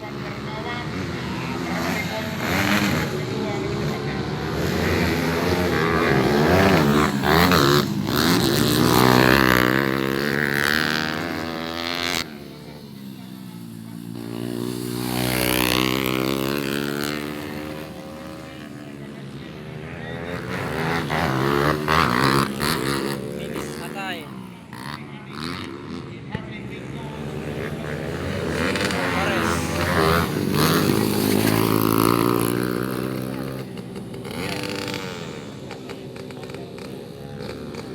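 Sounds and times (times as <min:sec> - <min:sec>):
dirt bike engines revving: 0:00.0 - 0:37.9.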